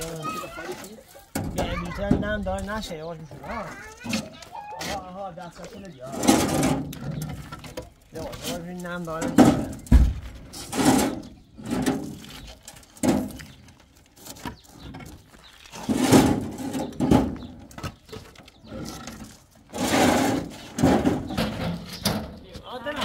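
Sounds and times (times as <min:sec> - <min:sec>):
concrete blocks knocking and scraping: 0:00.0 - 0:23.0.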